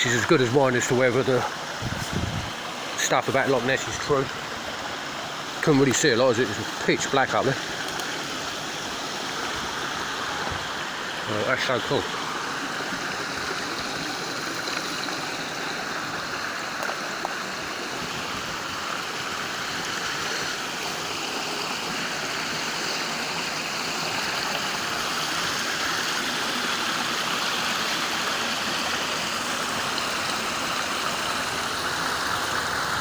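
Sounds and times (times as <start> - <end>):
stream water rushing: 0.0 - 33.0.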